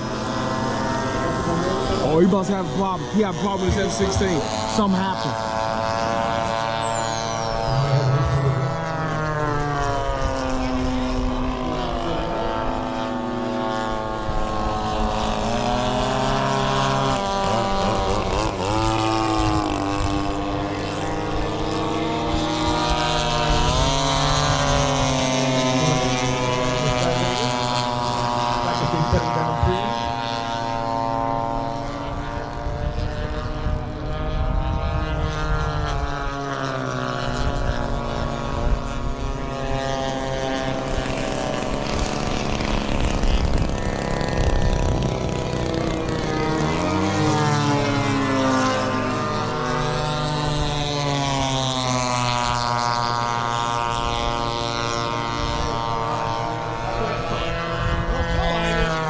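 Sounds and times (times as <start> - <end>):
model airplane propeller engines: 0.0 - 59.0.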